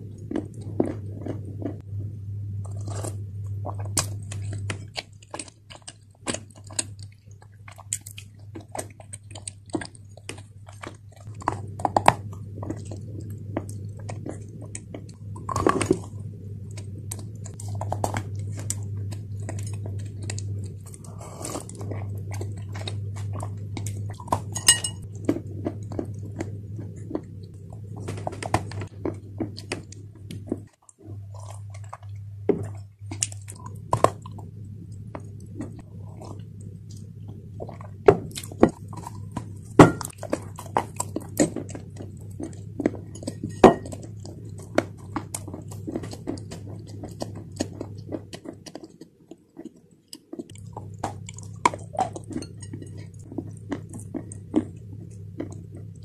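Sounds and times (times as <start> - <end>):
chewing dry clay crunches: 0.0 - 56.0
low steady hum: 0.0 - 56.0.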